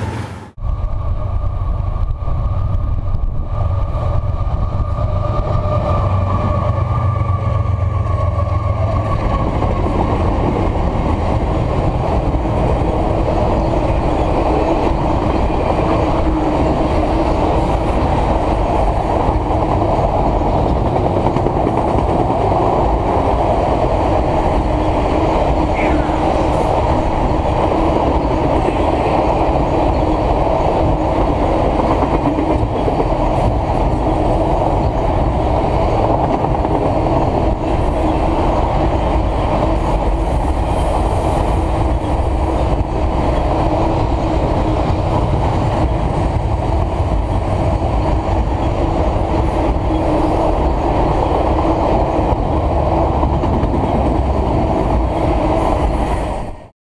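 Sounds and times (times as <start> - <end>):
freight train rolling past: 0.0 - 56.7.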